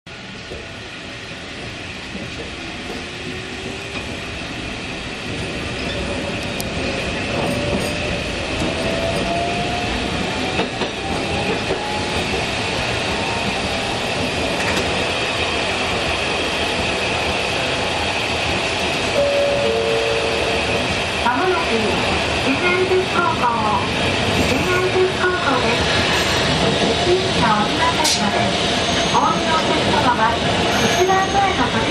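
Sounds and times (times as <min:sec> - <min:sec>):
tram motor whine: 0:00.2 - 0:31.0.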